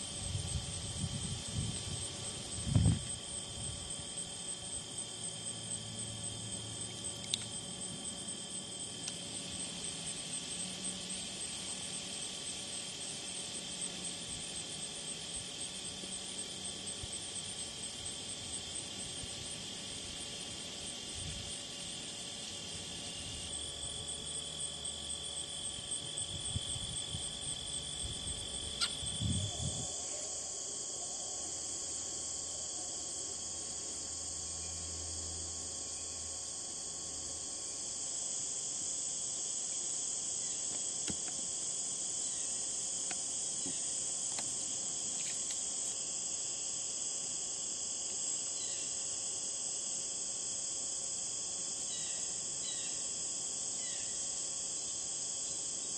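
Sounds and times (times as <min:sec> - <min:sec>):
crickets and katydids chirring: 0:00.0 - 0:55.9.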